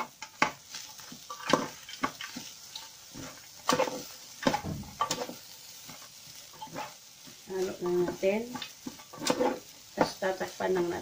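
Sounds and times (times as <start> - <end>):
utensil scraping a pan: 0.0 - 10.4
faint frying sizzle: 0.0 - 11.0.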